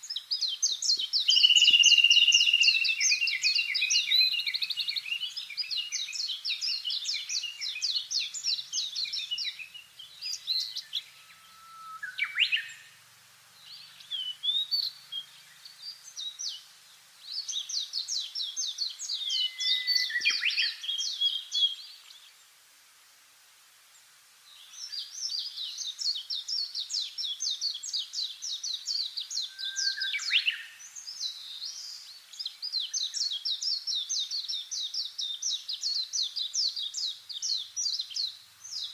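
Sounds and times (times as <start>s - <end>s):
songbirds chirping trills: 0.0s - 22.6s, 24.0s - 38.9s.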